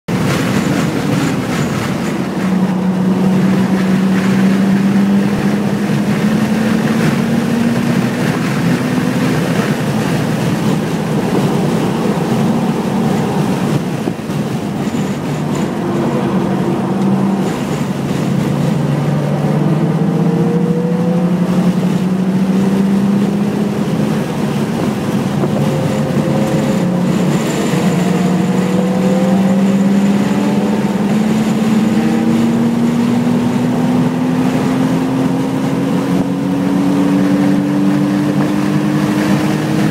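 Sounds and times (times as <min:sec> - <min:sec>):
car engine under hard load: 0:00.0 - 0:39.9
road and wind noise: 0:00.0 - 0:39.9.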